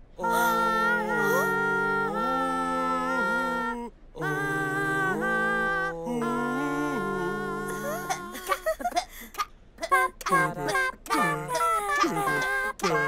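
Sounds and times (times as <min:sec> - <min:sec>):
cartoon character singing: 0:00.2 - 0:08.6, 0:09.8 - 0:13.0.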